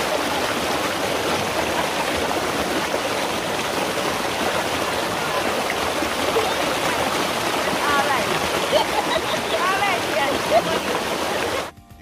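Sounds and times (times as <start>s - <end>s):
water rushing down rock cascade: 0.0s - 11.7s.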